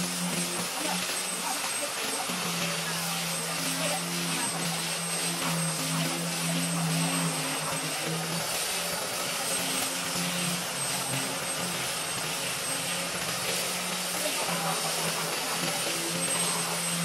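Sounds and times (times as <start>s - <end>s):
electric woodworking tool motor hum: 0.0s - 17.0s.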